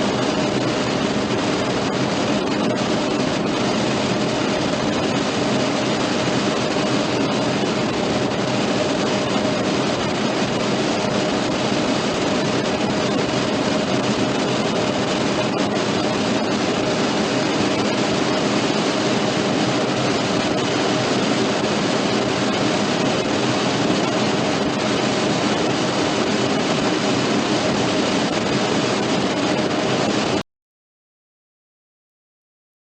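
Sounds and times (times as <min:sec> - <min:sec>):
steady buzz with constant tone: 0:00.0 - 0:30.4.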